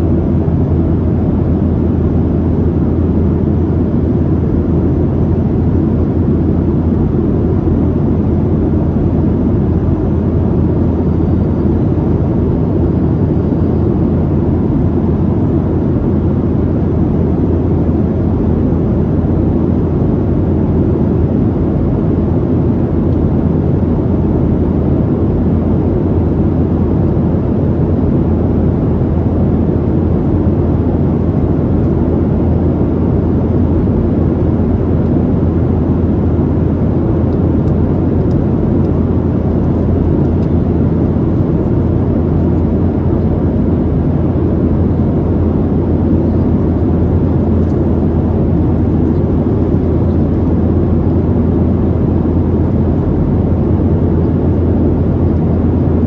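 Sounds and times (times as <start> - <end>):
jet engine cabin noise: 0.0 - 56.0.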